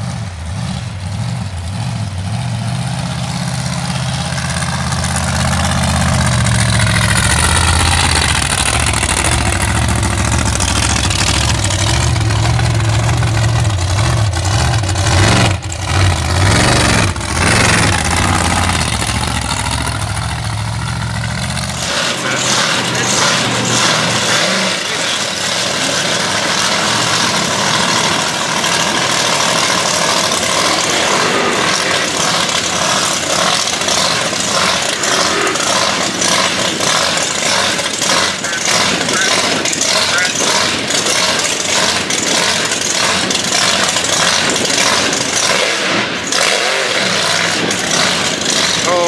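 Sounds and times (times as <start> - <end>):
thin noisy engine running: 0.0 - 49.0
truck engine deep idle revving: 0.0 - 49.0.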